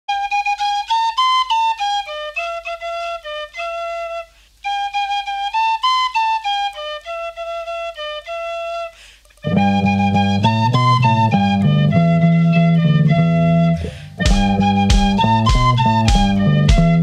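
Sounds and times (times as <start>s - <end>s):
tin whistle melody: 0.1s - 17.0s.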